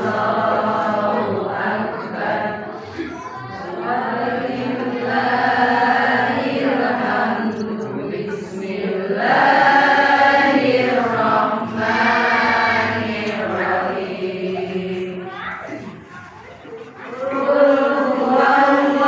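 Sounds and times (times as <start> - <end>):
group of voices chanting: 0.0 - 16.1, 17.0 - 19.0.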